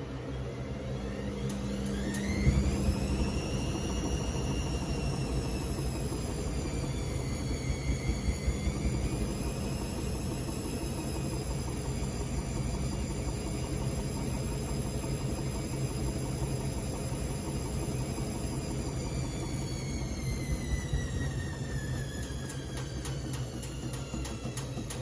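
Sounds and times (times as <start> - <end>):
appliance motor humming and whining: 0.0 - 25.0.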